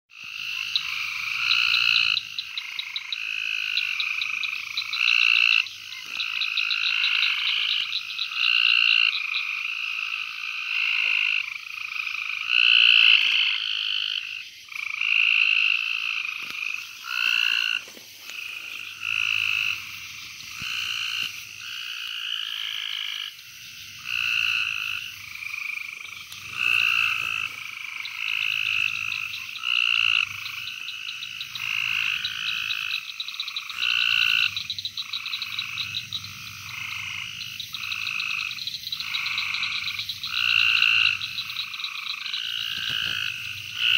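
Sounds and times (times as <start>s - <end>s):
frogs and toads trilling: 0.1s - 43.9s.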